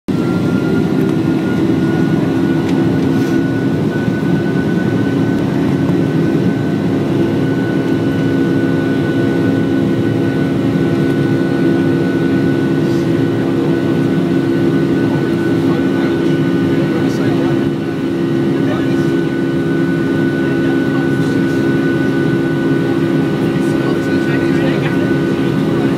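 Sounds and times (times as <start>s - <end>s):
jet engines roaring in cabin: 0.1s - 25.9s.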